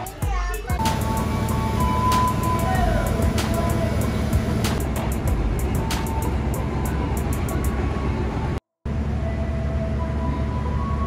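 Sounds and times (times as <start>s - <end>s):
train rumbling: 0.8s - 11.0s.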